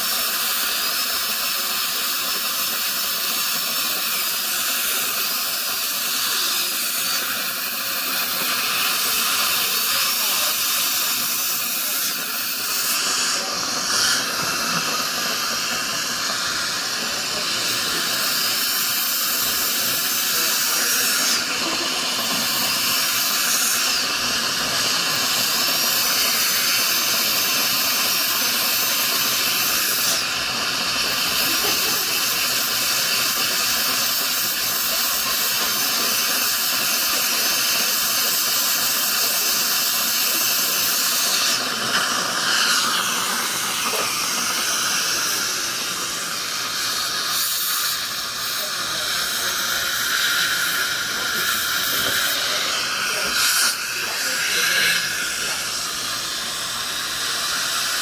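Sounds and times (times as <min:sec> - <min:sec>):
dental drill whining: 0:00.0 - 0:58.0.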